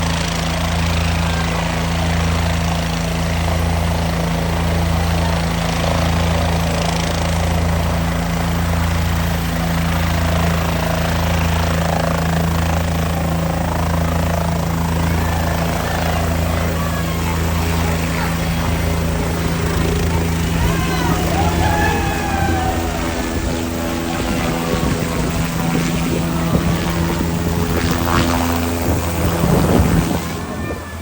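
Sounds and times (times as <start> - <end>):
helicopter running: 0.0 - 31.0.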